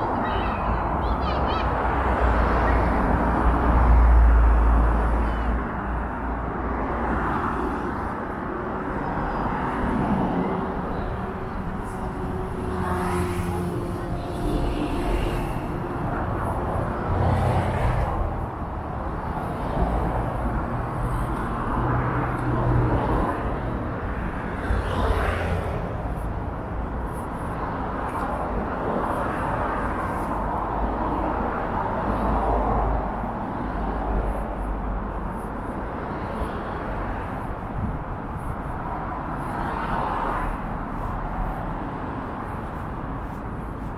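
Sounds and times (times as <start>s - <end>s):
passing road traffic: 0.0s - 43.9s.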